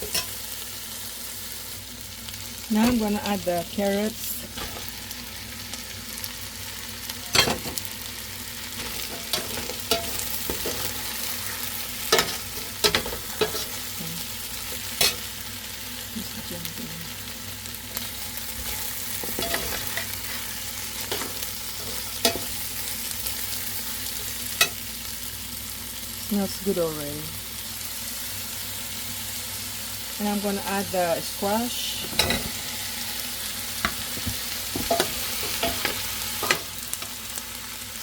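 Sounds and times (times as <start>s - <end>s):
food sizzling in a pan: 0.0s - 38.0s.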